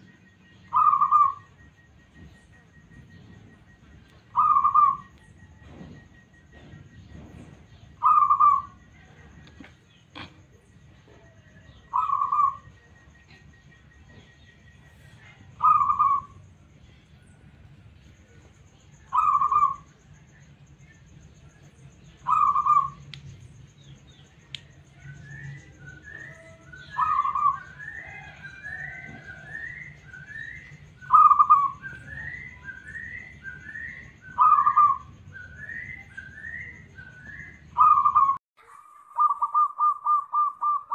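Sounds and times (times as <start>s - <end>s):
rising bird calls: 0.0s - 9.6s, 10.2s - 17.0s, 18.7s - 20.2s, 21.4s - 40.9s
dove cooing: 0.0s - 16.4s, 19.0s - 20.0s, 22.2s - 23.0s, 24.9s - 38.4s, 39.0s - 40.9s.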